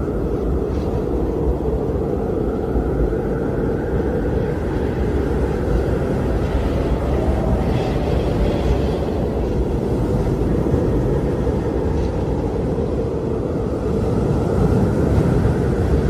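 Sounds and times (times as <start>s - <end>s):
steady low rumbling: 0.0s - 16.0s.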